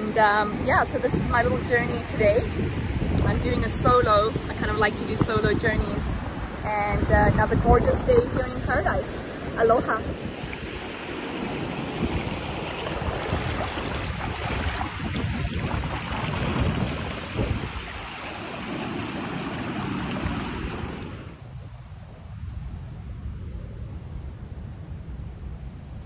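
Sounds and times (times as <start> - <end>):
rushing water: 0.0 - 21.4
wind buffeting microphone: 0.0 - 26.0.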